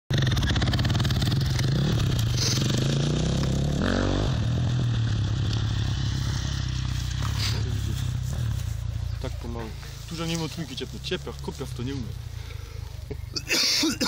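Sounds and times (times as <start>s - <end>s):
motorcycle engine idling: 0.1s - 3.8s, 4.4s - 14.0s.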